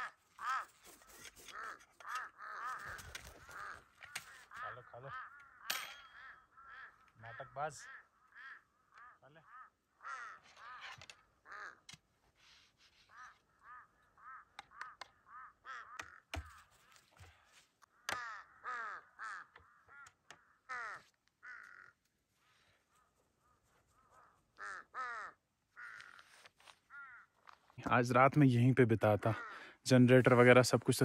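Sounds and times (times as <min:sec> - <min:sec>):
birds harsh calls: 0:00.0 - 0:27.8, 0:29.1 - 0:30.4.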